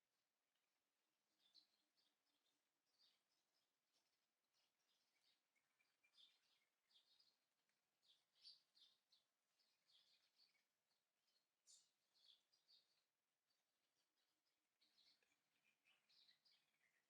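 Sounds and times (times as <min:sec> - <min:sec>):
small birds chirping: 0:01.3 - 0:17.0.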